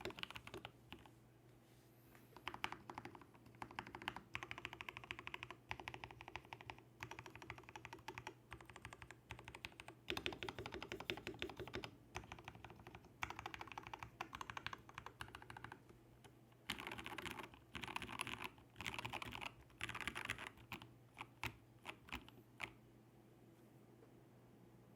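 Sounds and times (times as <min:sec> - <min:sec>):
mechanical keyboard typing: 0:00.0 - 0:01.1, 0:02.4 - 0:16.0, 0:16.6 - 0:22.8.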